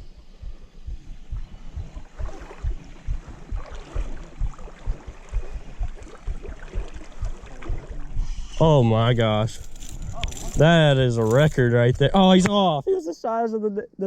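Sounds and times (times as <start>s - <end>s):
low thumps: 0.0s - 12.8s
creek water splashing: 1.2s - 12.8s.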